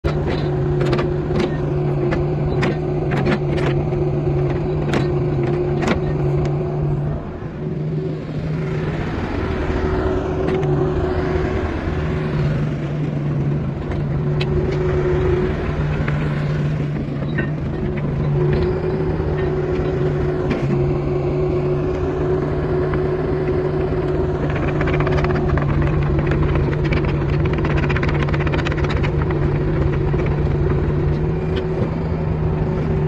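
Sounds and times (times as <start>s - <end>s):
excavator diesel engine: 0.0s - 33.0s.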